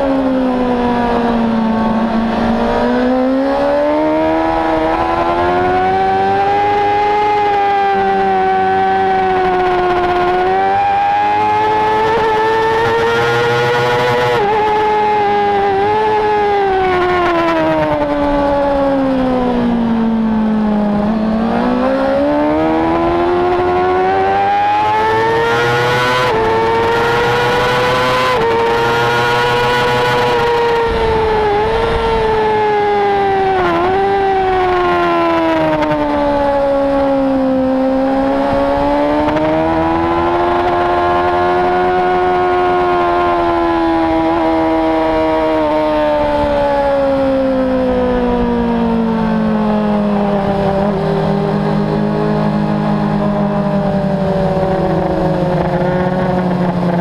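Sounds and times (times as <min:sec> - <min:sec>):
racing motorcycle engine: 0:00.0 - 0:57.0.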